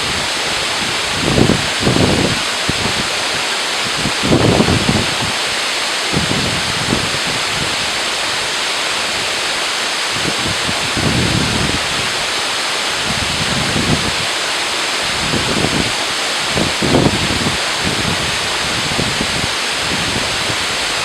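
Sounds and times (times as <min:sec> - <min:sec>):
water rushing: 0:00.0 - 0:21.0
wind gusts on microphone: 0:00.0 - 0:21.0.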